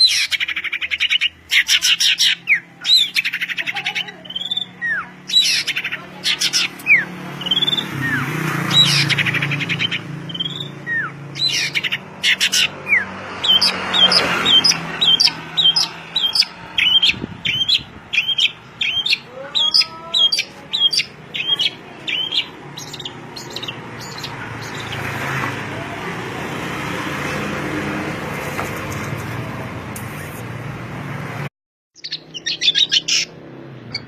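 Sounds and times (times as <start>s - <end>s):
songbird chirping rapidly: 0.0s - 25.7s, 32.0s - 34.0s.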